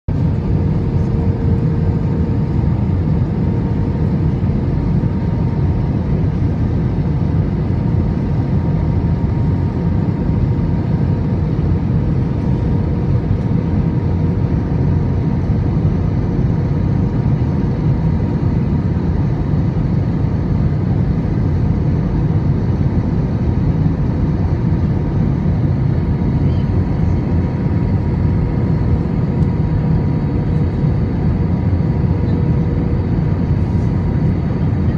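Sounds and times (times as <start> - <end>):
aircraft cabin engine rush: 0.1 - 34.9.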